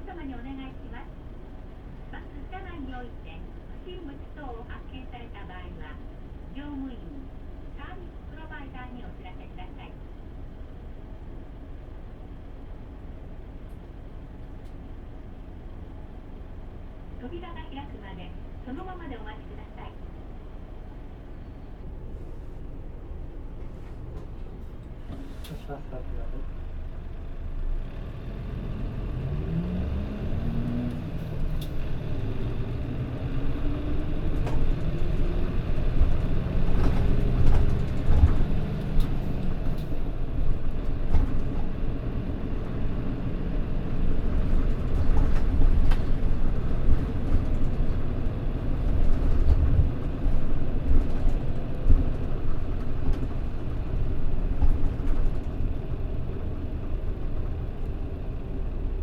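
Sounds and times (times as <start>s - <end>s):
bus diesel engine accelerating: 0.0s - 59.0s
road rumble: 0.0s - 59.0s.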